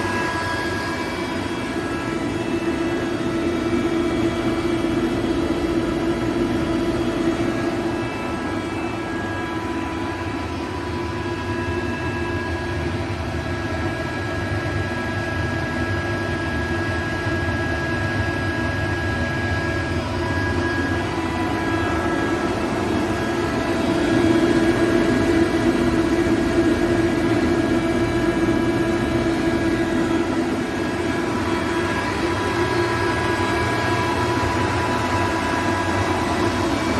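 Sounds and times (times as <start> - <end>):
air compressor humming: 0.0 - 12.1, 19.2 - 36.9.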